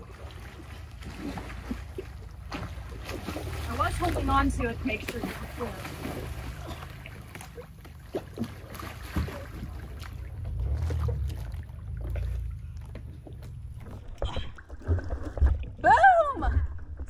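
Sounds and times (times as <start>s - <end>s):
low rumble on microphone: 0.0s - 17.0s
water splashing around kayak: 0.0s - 17.0s.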